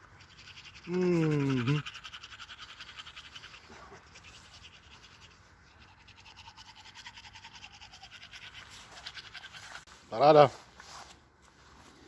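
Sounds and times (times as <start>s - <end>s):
toothbrush scrubbing teeth: 0.0s - 9.9s.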